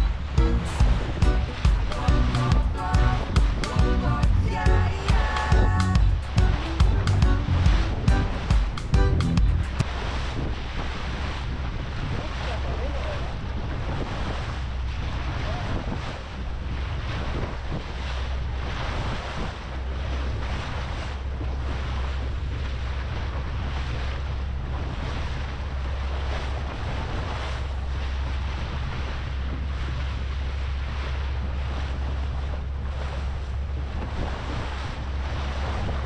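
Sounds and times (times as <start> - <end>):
boat motor droning: 0.0 - 36.0
water rushing past hull: 0.0 - 36.0
wind buffeting microphone: 0.0 - 36.0.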